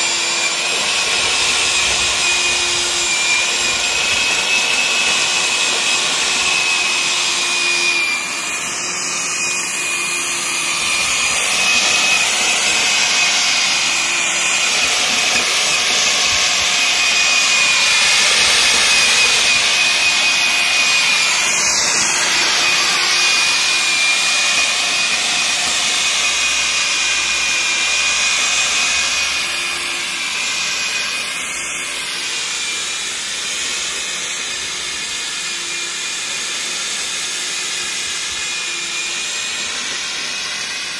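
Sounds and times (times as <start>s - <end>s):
electric tiller churning soil: 0.0s - 40.9s.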